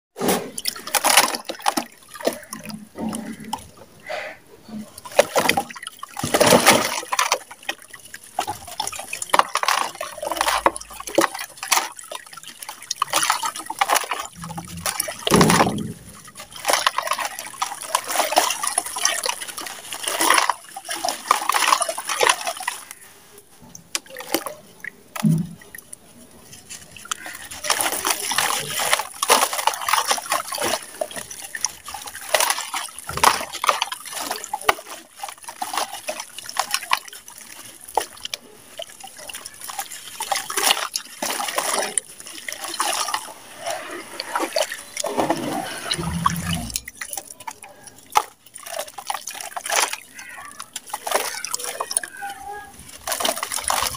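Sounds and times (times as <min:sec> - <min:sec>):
pieces splashing into water: 0:00.2 - 0:04.1, 0:04.8 - 0:53.9
chunks crumbled into water: 0:00.2 - 0:53.9.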